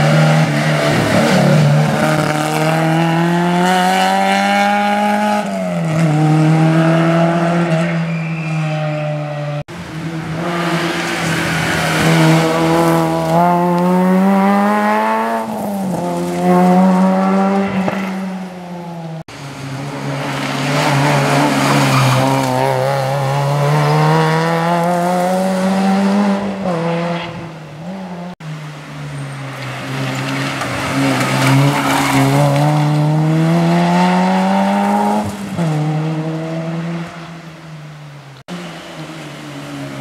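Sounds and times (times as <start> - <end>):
rally car engine revving: 0.0 - 28.7, 29.5 - 37.4.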